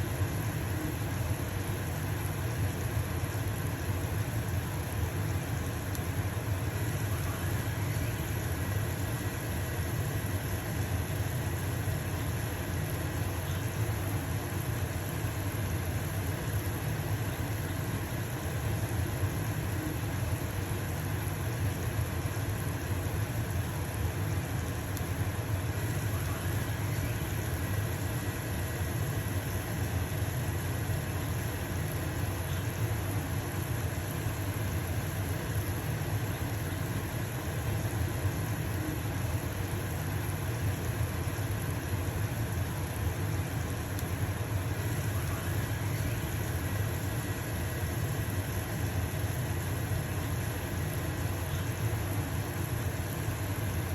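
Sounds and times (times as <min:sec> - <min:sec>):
range hood fan humming: 0:00.0 - 0:53.9.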